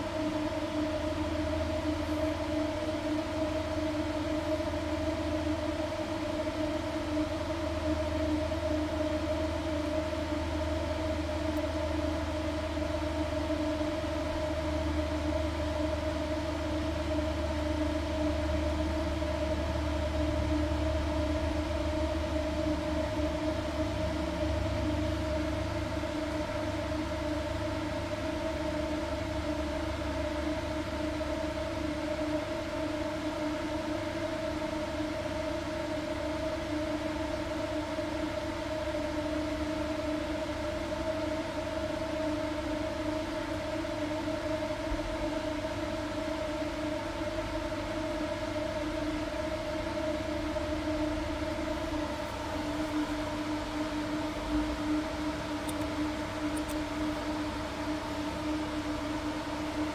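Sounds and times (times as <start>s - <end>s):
electric cooling fans whining: 0.0s - 59.9s.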